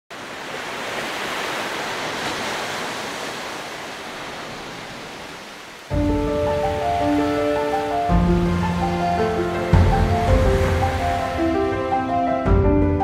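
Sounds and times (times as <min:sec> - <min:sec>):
ocean waves rushing: 0:00.1 - 0:13.0.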